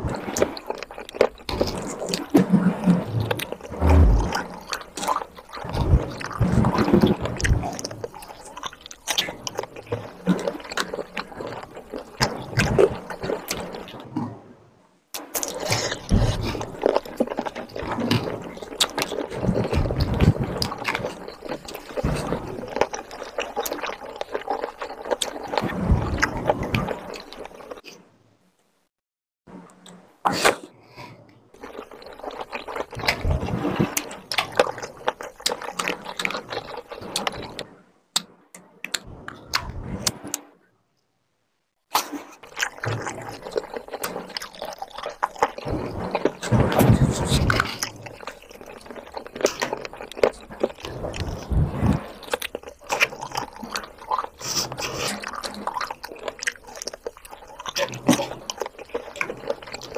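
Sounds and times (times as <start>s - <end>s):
wet chewing and lip-smacking: 0.0s - 14.1s, 15.2s - 27.9s, 31.5s - 40.3s, 41.9s - 59.9s.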